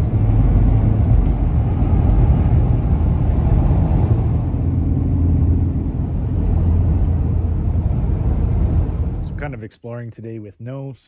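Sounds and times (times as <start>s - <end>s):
truck engine drone: 0.0s - 9.6s
tyre and road noise: 0.0s - 9.6s.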